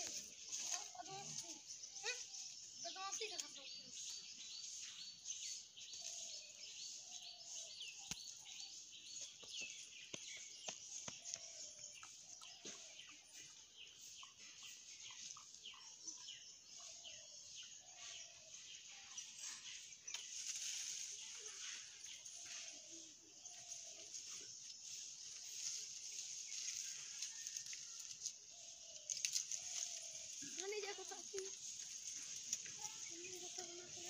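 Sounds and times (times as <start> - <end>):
birds chirping and twittering: 0.0 - 34.0.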